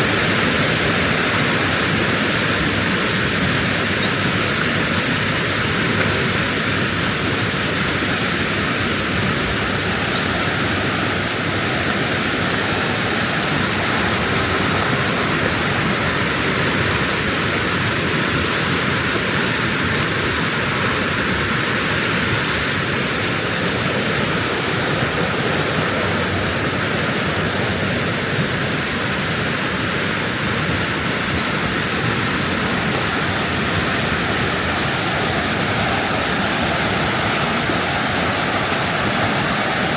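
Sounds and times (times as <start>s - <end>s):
rushing white water: 0.0s - 39.9s.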